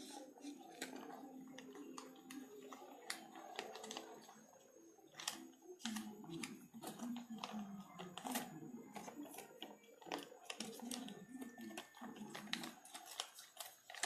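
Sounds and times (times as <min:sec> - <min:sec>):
paper creasing clicks and taps: 0:00.0 - 0:14.0
paper crinkling: 0:00.0 - 0:14.0.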